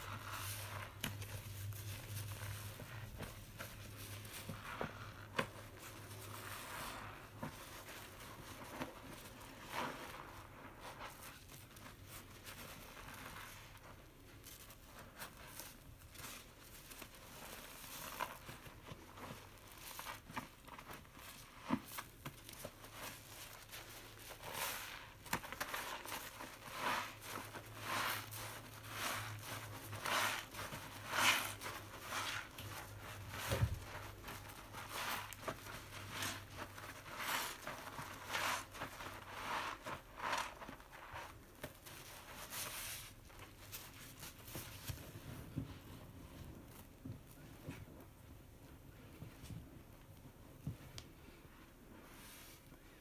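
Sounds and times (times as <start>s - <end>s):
sponge squelching in soapy water: 0.0s - 47.0s.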